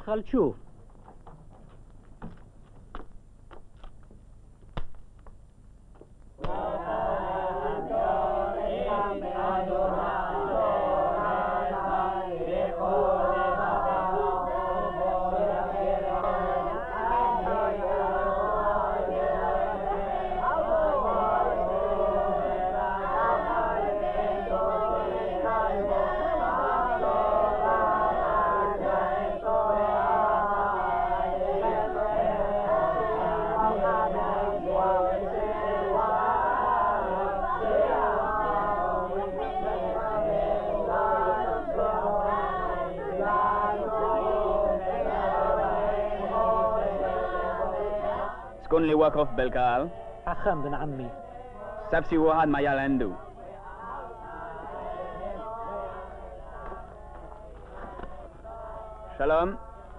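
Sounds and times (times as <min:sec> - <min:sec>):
boys chanting in unison: 0:06.4 - 0:59.8.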